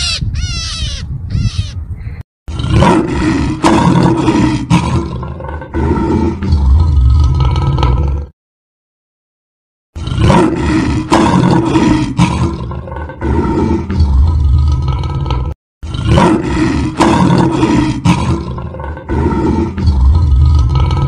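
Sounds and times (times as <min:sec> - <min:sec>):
lion growling and roaring: 0:02.5 - 0:08.3, 0:10.0 - 0:21.0.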